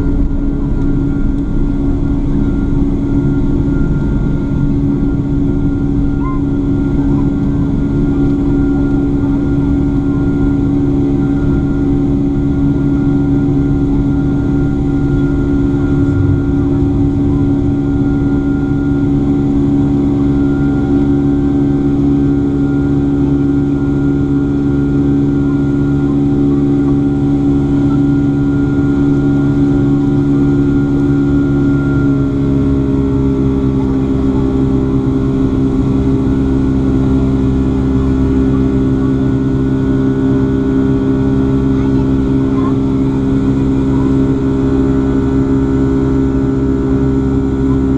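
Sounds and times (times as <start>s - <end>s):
jet engines droning in cabin: 0.0s - 47.9s.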